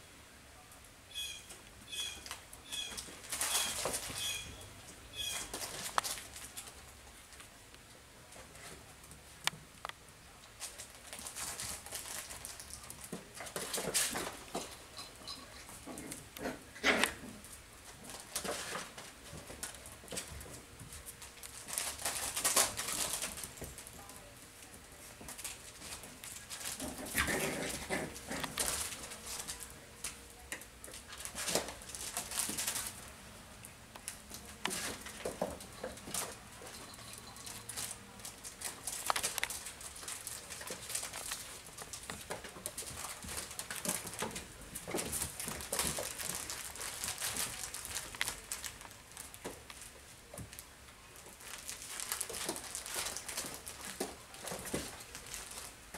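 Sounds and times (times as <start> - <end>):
puppies scuffling on tile floor: 1.2 - 7.5, 10.4 - 55.9.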